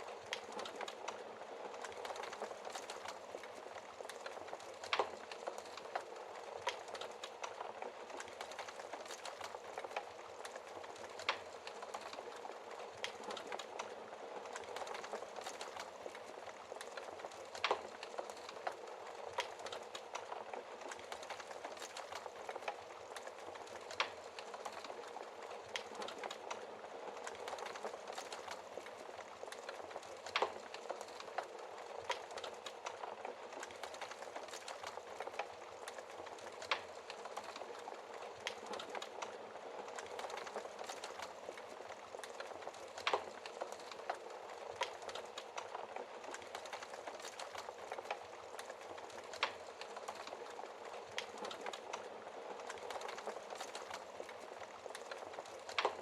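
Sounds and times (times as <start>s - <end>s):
wood fire crackling: 0.0s - 56.0s
fire pops: 0.2s - 56.0s.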